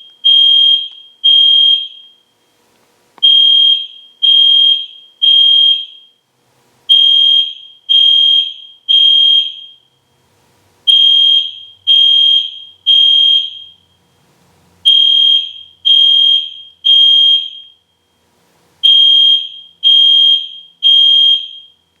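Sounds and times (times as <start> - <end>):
fire alarm horn beeping: 0.0 - 2.4, 3.2 - 6.2, 6.9 - 9.9, 10.9 - 14.2, 14.8 - 18.2, 18.8 - 21.8.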